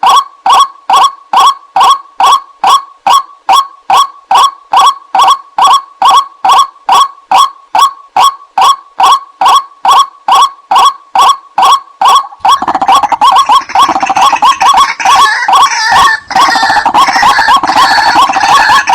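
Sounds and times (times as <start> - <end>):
waterhen harsh repeated call: 1.0 - 18.9.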